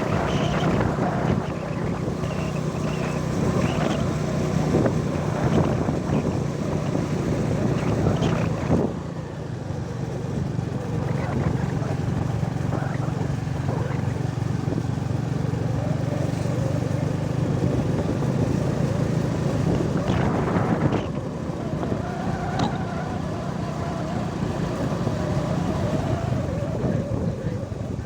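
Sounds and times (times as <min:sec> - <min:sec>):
rush of noise: 0:00.0 - 0:28.0
vehicle engine running: 0:00.0 - 0:28.0.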